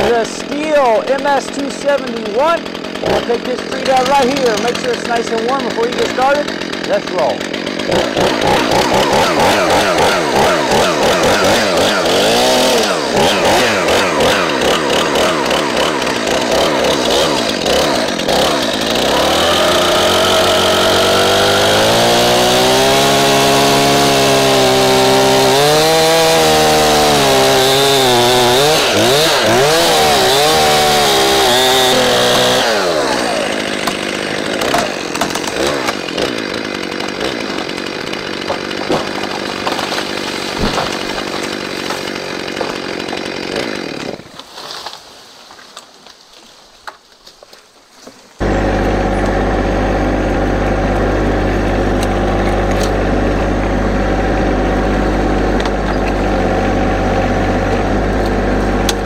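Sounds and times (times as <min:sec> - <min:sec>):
chainsaw cutting into tree: 0:00.0 - 0:59.0.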